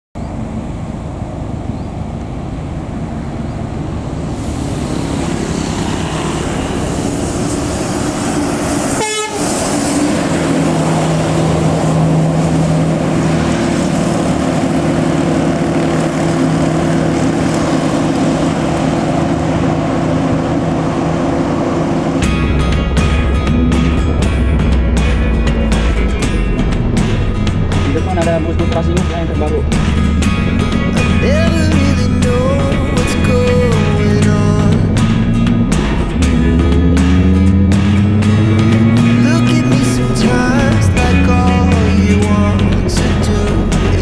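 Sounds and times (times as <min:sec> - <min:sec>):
coach passing by: 0:00.2 - 0:44.0
low drone: 0:00.2 - 0:44.0
motorbikes: 0:00.2 - 0:44.0.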